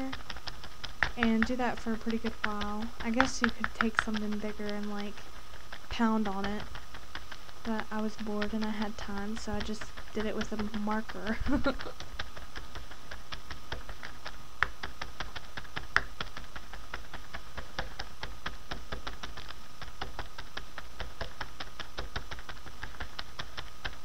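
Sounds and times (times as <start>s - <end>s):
marker tapping plastic bag: 0.0s - 24.0s
sharp clicks: 0.0s - 24.0s.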